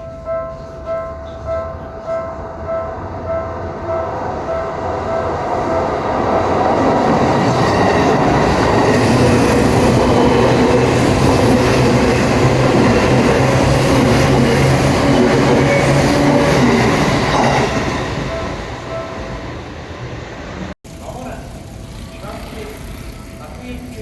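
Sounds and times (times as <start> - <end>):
level-crossing warning bell ringing: 0.0 - 20.4
train running noise: 0.0 - 24.0.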